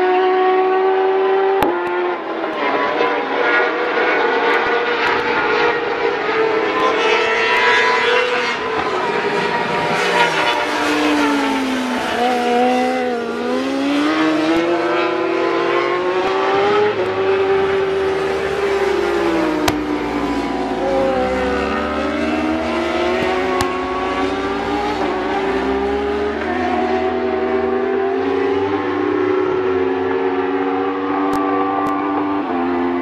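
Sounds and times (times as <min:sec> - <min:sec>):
racing motorcycle engines revving: 0:00.0 - 0:33.0.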